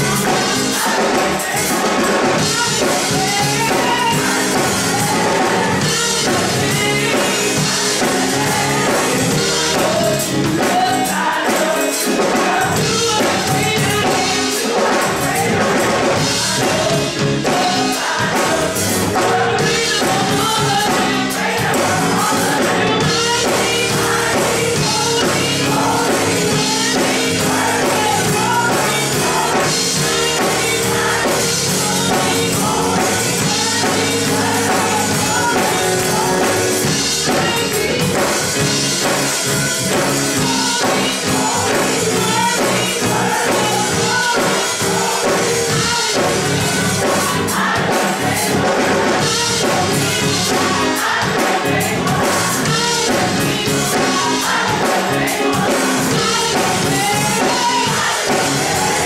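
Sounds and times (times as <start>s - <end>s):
choir singing gospel: 0.0s - 59.0s.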